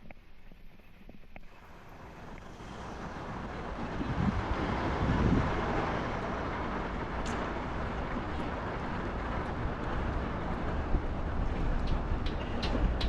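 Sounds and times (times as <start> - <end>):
wind rushing over microphone: 0.0 - 13.0
road and traffic noise: 1.4 - 13.0.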